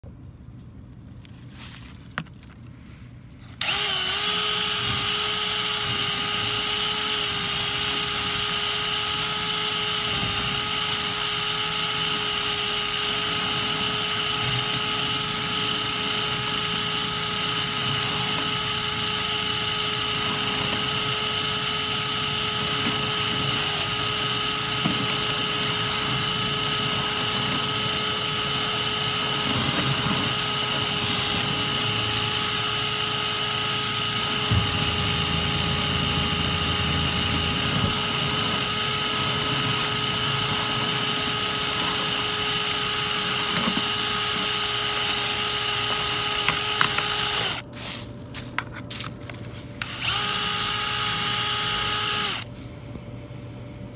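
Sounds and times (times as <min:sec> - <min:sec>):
power drill whining: 0:03.5 - 0:47.6, 0:49.8 - 0:52.5.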